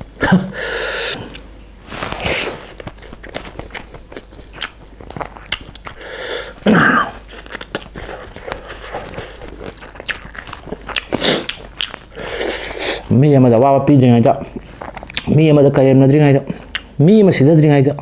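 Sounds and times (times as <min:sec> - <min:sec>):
man chewing food: 0:00.0 - 0:13.1, 0:14.3 - 0:15.4, 0:16.5 - 0:16.9.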